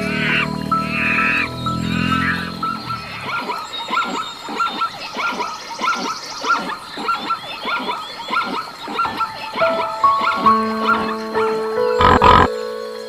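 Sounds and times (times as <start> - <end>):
small animals yelping: 0.0 - 12.5.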